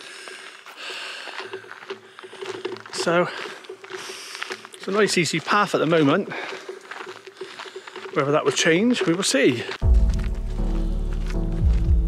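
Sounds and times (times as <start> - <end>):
footsteps on stony path: 0.0 - 12.0.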